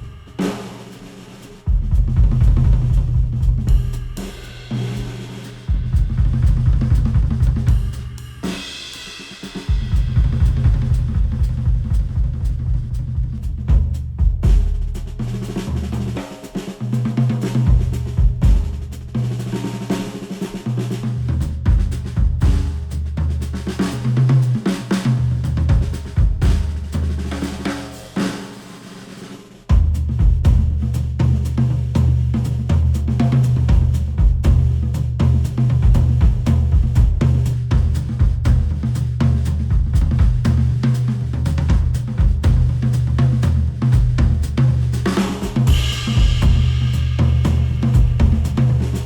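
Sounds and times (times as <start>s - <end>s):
instrumental music with drum beat: 0.0s - 49.0s.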